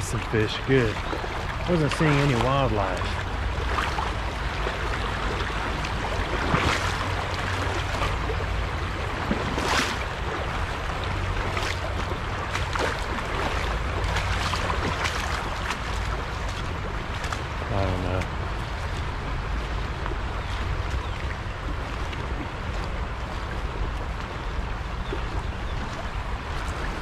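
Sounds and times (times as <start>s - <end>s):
creek water rushing over rocks: 0.0s - 27.0s
wading splashes: 0.0s - 27.0s.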